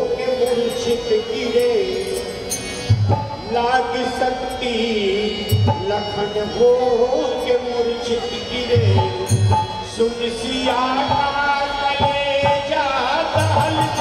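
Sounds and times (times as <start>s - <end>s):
sustained gliding melody: 0.0s - 14.0s.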